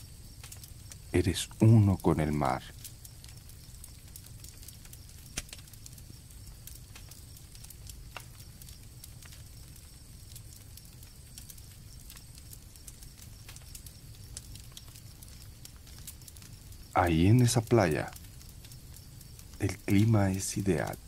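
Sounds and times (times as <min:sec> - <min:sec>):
campfire crackling and popping: 0:00.0 - 0:21.0
crickets trilling: 0:00.0 - 0:21.0.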